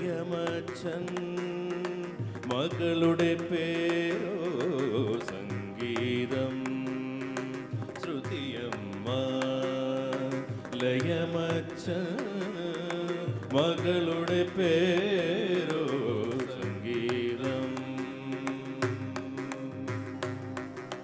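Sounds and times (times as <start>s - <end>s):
man singing: 0.0s - 20.7s
hand drum beats: 0.0s - 21.0s
keyboard: 0.0s - 21.0s.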